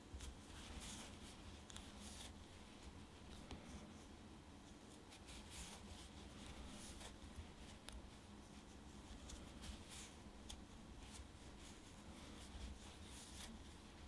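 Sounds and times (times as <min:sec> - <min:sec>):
yarn rustling on crochet hook: 0:00.0 - 0:14.0.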